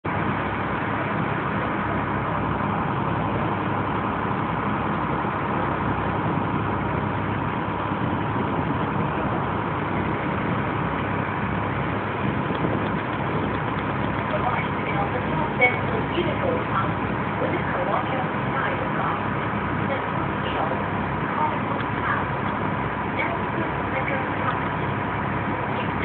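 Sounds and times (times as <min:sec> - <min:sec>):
boat engine humming: 0:00.0 - 0:26.0
hiss of water and wind: 0:00.0 - 0:26.0.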